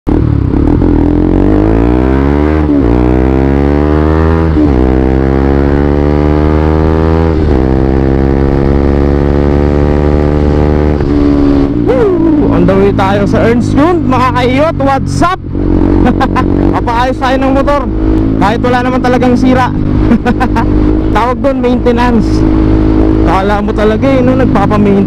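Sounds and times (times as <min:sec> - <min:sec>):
motorcycle accelerating: 0:00.1 - 0:25.0.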